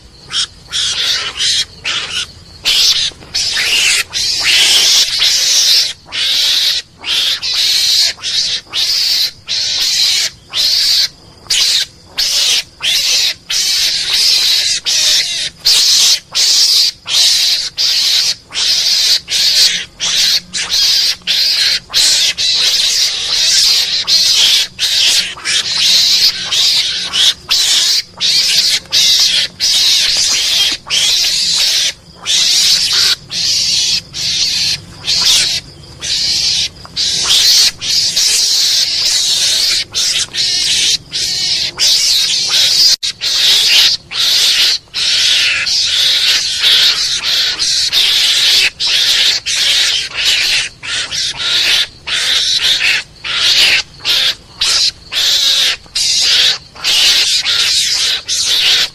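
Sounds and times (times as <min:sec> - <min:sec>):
mongoose chattering calls: 0:00.0 - 0:58.9.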